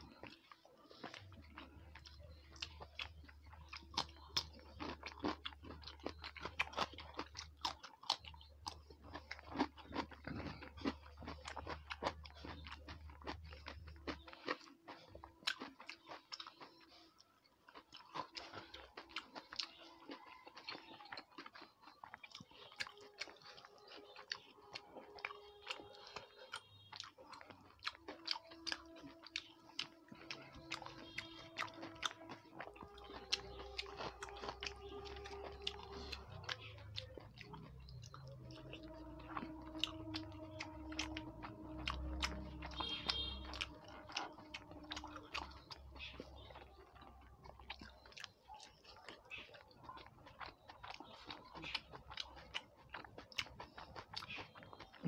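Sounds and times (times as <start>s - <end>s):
close chewing with wet mouth clicks: 0.0s - 55.0s.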